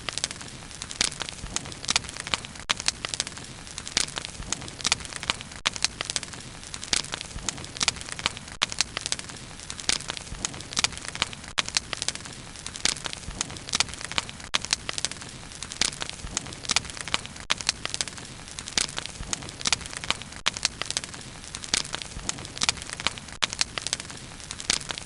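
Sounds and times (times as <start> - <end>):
bonfire crackling: 0.0 - 25.0.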